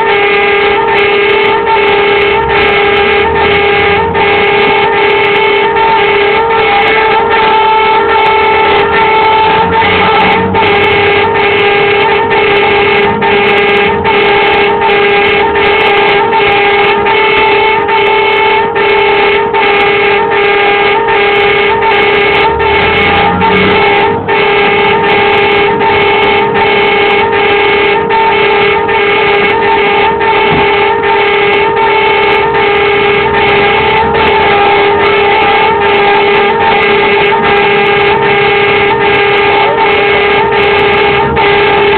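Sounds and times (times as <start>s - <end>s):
pulsing high siren tone: 0.0s - 41.9s.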